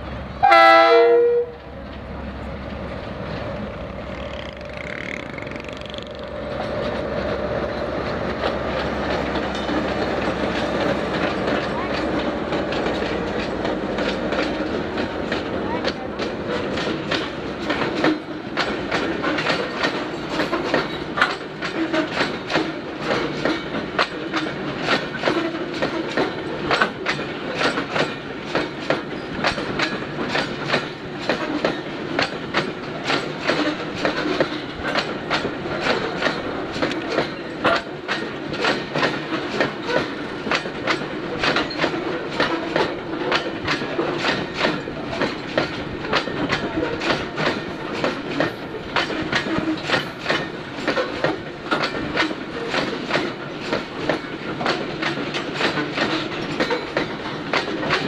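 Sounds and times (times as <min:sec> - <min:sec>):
freight train rolling rumble: 0:00.0 - 0:58.0
train wheels clicking over rail joints: 0:01.5 - 0:58.0.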